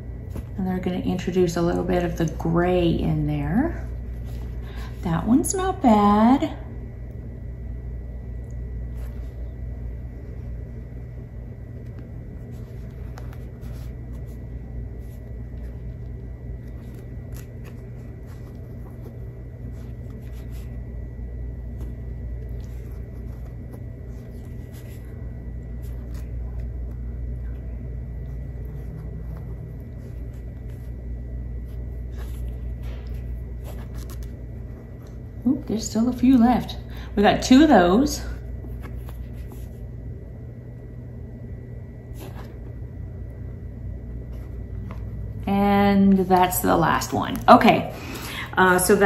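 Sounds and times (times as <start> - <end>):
low room hum: 0.0 - 49.0.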